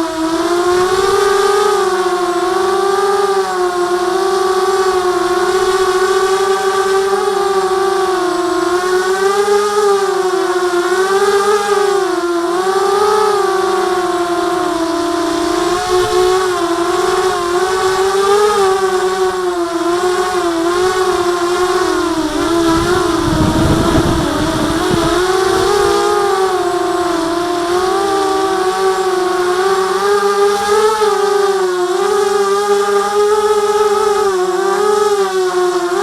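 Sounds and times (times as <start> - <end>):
drone motors whining: 0.0 - 36.0.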